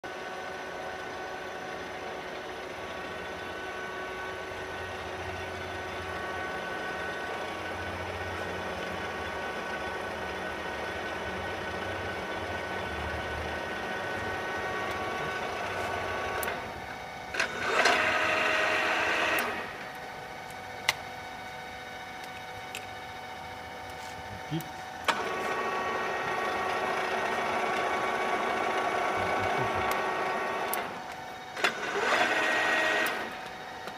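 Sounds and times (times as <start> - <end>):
loud mechanical whirr: 0.0 - 33.9
drill machine humming with whine: 0.1 - 33.9.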